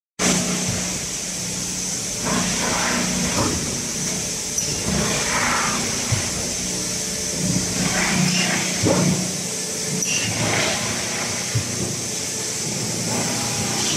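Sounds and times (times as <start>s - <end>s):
machine mechanical hum: 0.2s - 13.9s.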